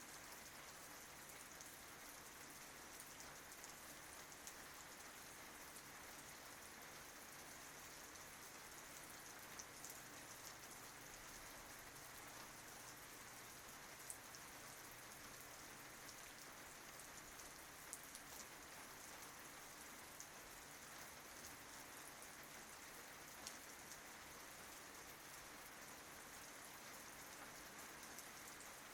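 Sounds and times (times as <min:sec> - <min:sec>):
rain on tree leaves: 0:00.0 - 0:28.9.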